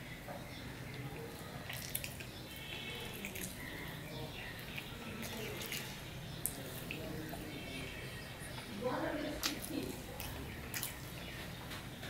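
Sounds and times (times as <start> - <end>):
wet chewing and mouth smacking: 0.9 - 11.9.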